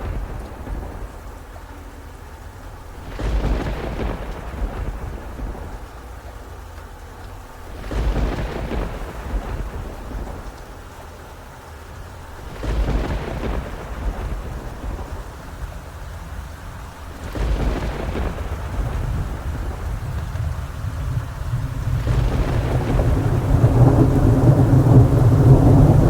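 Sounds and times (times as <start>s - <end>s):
rolls of thunder: 0.0s - 26.0s
steady rain: 0.0s - 26.0s.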